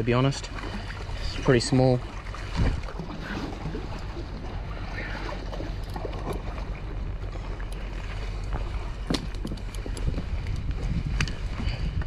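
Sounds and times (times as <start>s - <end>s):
water: 0.0s - 12.0s
wind: 0.0s - 12.0s
wind rumble on microphone: 0.0s - 12.0s.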